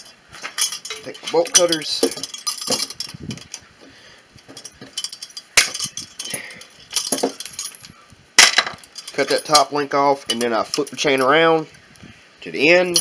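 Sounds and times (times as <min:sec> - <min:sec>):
chain rattling and clinking: 0:00.0 - 0:03.6, 0:04.4 - 0:11.5.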